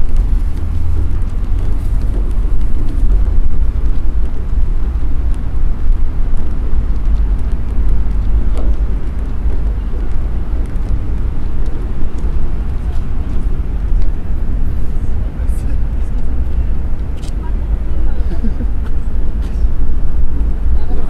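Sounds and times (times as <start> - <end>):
outdoor background noise: 0.0 - 21.0
wind buffeting microphone: 0.0 - 21.0.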